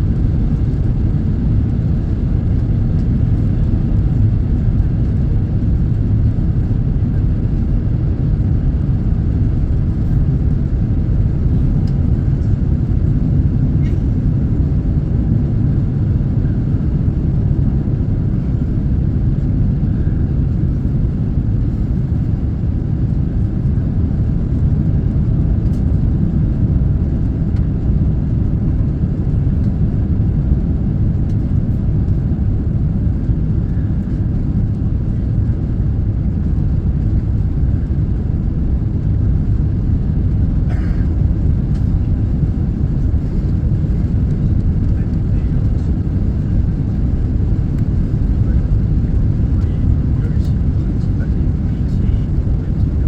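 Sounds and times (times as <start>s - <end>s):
airliner engines roaring: 0.0s - 53.0s.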